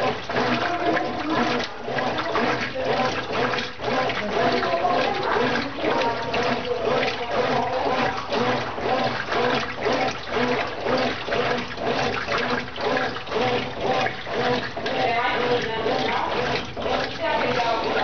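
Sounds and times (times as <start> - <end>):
washing machine agitating: 0.0 - 18.0.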